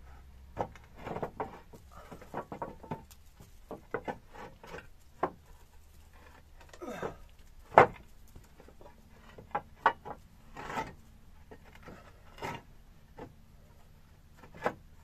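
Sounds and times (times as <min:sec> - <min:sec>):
roof tiles knocking and scraping: 0:00.5 - 0:13.4.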